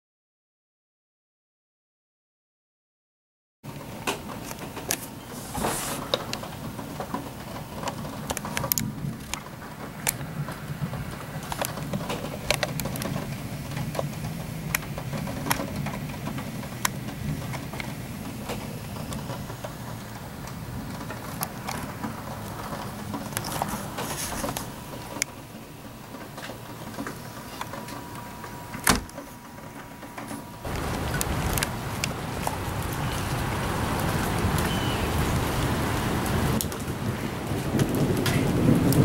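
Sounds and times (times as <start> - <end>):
steady low rumble: 5.1 - 39.0.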